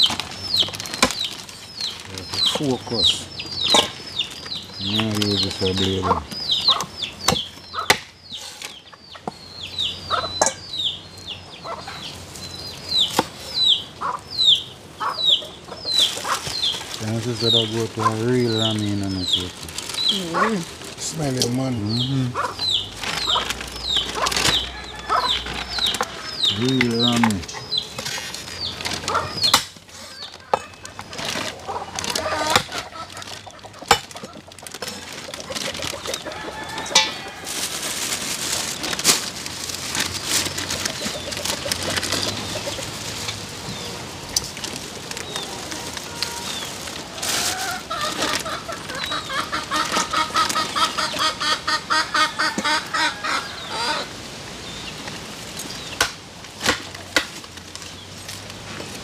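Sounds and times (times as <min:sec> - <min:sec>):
plastic bags rustling: 0:00.0 - 0:07.8, 0:15.9 - 0:52.5, 0:54.2 - 0:59.0
chickens clucking: 0:00.0 - 0:58.9.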